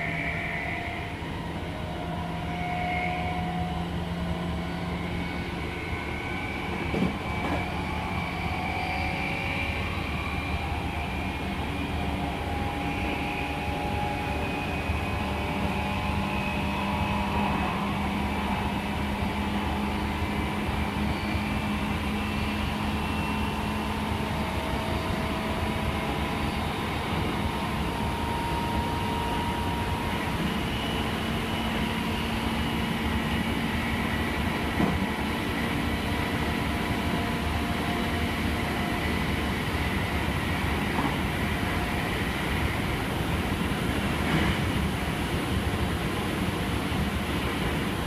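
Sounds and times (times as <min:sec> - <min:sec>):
train wheels rolling on rail: 0:00.0 - 0:48.0.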